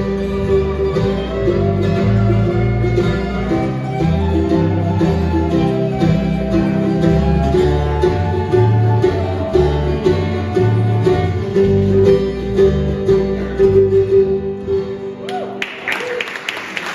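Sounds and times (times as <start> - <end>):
bass notes: 0.0 - 15.2
banjo: 0.0 - 15.3
mandolin: 0.0 - 15.8
acoustic guitars: 0.0 - 16.6.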